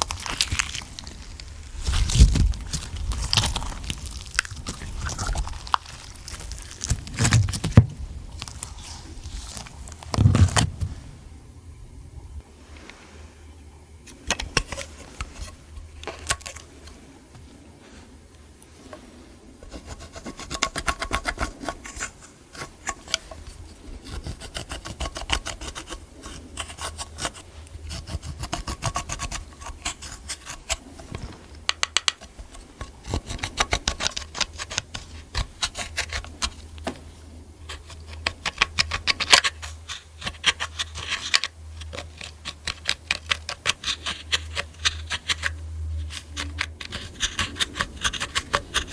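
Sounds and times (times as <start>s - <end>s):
low steady hum: 0.0s - 48.9s.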